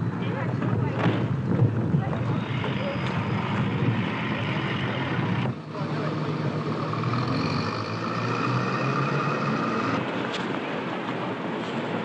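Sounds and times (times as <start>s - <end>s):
motor taxis driving past: 0.0s - 12.0s.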